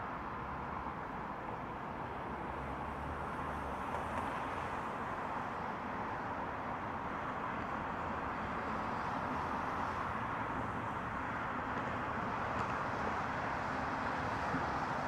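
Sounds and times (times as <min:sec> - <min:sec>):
highway traffic: 0:00.0 - 0:15.0.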